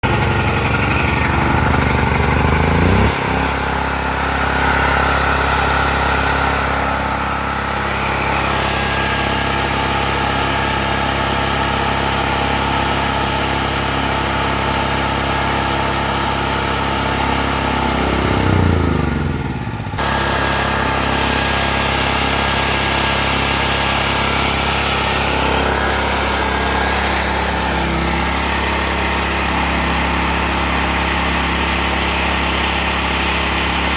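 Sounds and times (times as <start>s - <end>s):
portable generator engine running: 0.0s - 33.9s.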